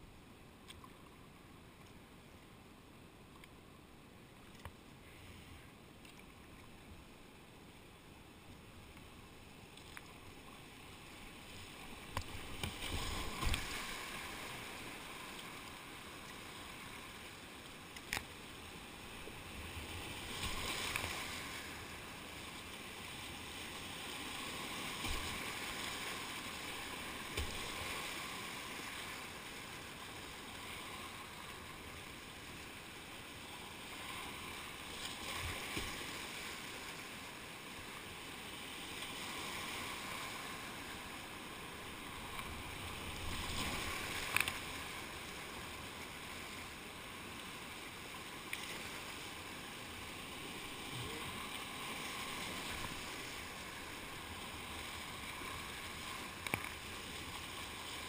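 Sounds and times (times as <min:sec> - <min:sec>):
whitewater rushing and splashing: 0:10.2 - 0:58.0.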